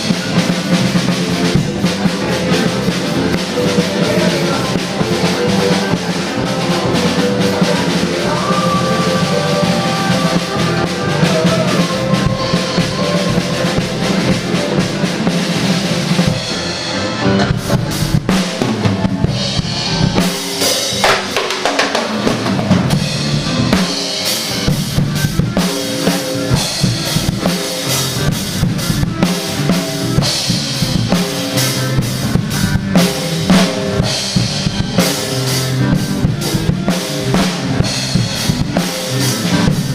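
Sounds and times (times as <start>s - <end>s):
drum kit playing: 0.0s - 39.9s
rock band backing track: 0.0s - 39.9s.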